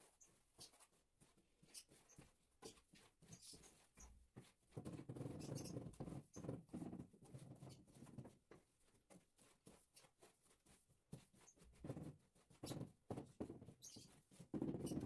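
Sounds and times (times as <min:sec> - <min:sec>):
faint taps and scrapes on floor: 0:00.0 - 0:15.0.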